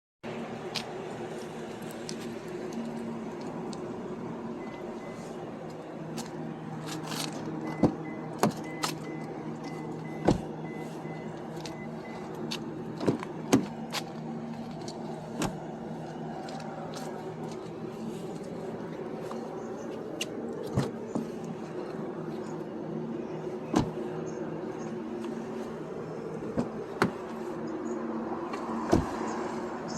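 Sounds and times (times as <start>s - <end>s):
car doors opening and shutting: 0.6s - 29.6s.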